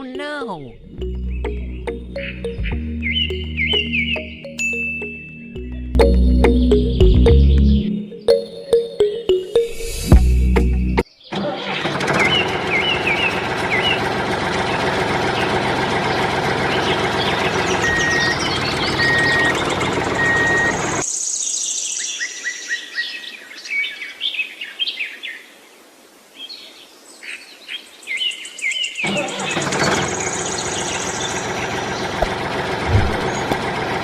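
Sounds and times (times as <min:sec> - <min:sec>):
birds chirping and tweeting: 0:00.6 - 0:09.0, 0:11.0 - 0:25.8, 0:26.4 - 0:34.0.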